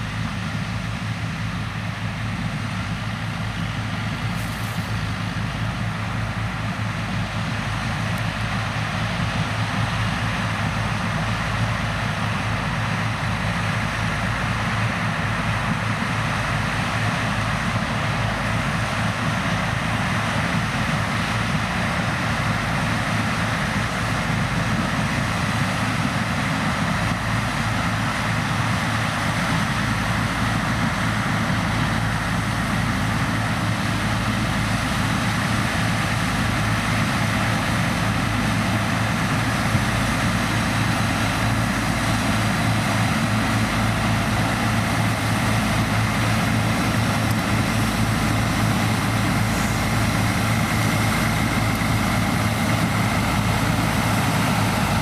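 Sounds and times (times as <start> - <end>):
diesel farm machinery running: 0.0 - 55.0.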